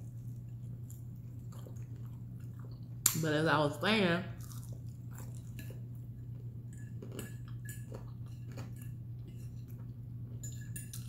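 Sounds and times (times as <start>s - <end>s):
person chewing food: 0.0s - 3.1s, 4.4s - 11.0s
steady low hum: 0.0s - 11.0s.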